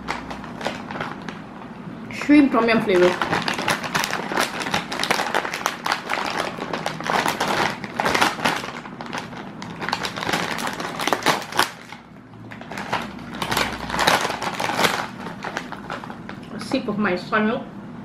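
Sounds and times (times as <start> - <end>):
chip bag crinkling: 0.0 - 1.6, 2.4 - 16.6.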